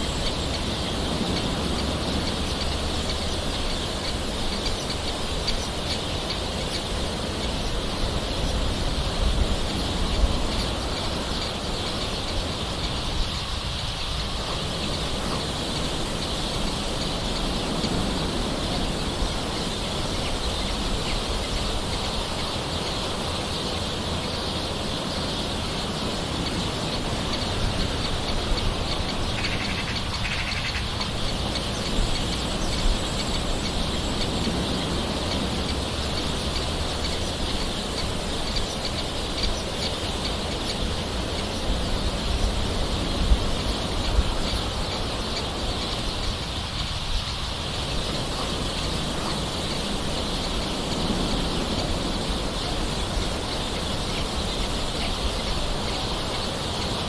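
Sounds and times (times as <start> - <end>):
bird calls: 0.0 - 57.0.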